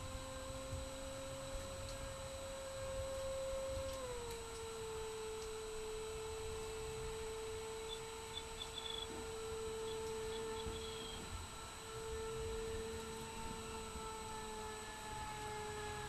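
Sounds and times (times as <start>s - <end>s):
electric motor and propeller drone: 0.0s - 16.0s.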